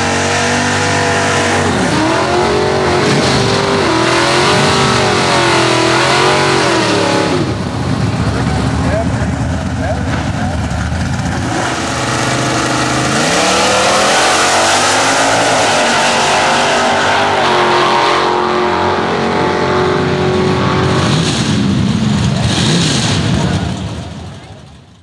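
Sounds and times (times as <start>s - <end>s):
drag car engines at full throttle: 0.0s - 25.0s.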